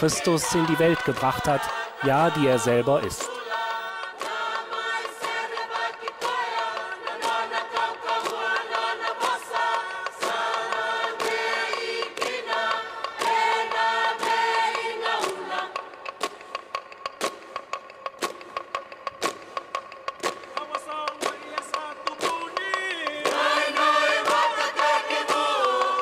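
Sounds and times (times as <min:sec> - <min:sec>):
choir singing a chant: 0:00.0 - 0:16.2, 0:20.8 - 0:26.0
hand claps keeping time: 0:00.5 - 0:26.0.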